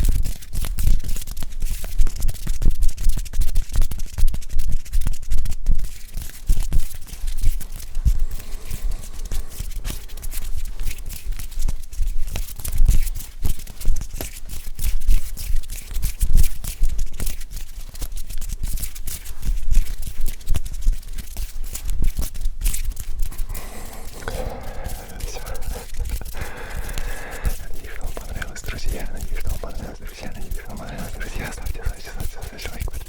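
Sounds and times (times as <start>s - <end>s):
hands rubbing and tapping: 0.0s - 33.0s.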